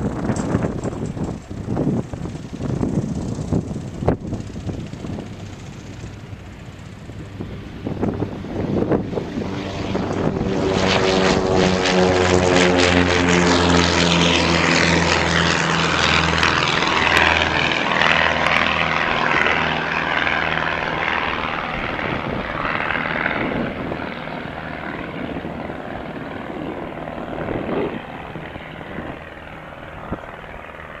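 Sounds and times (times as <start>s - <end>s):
propeller aircraft engine: 0.0s - 31.0s.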